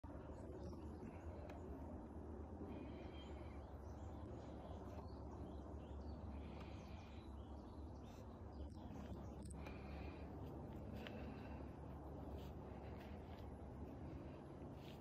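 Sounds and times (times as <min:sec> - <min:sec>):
birds chirping: 0:00.0 - 0:15.0
faint low hum: 0:00.0 - 0:15.0.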